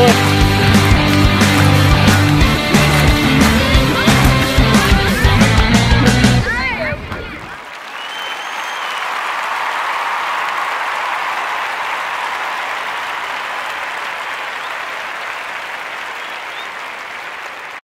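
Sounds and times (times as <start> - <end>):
crowd applause: 0.0 - 17.8.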